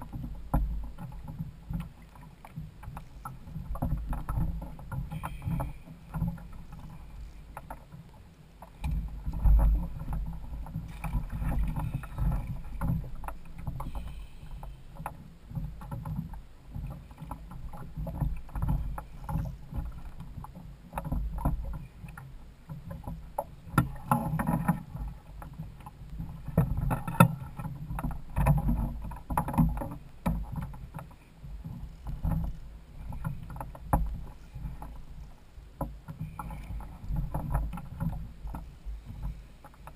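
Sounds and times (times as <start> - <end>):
water sloshing against kayak hull: 0.0 - 39.9.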